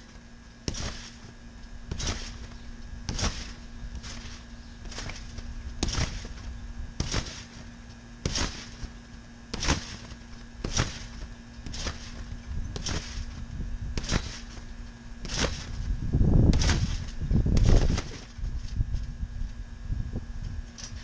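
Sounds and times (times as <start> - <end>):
trampoline landing impacts: 0.0 - 19.1, 20.6 - 21.0.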